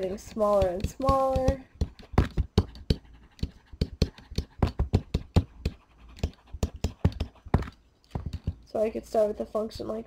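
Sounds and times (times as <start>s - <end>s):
stylus tapping and scratching screen: 0.0s - 10.0s.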